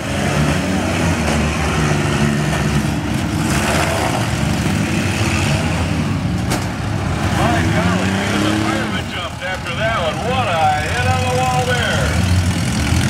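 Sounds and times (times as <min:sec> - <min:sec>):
many car engines revving: 0:00.0 - 0:13.0.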